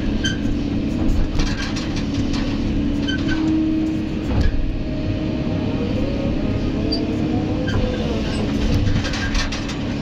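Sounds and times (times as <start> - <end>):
excavator diesel engine: 0.0 - 10.0
steady hydraulic whine: 2.0 - 10.0.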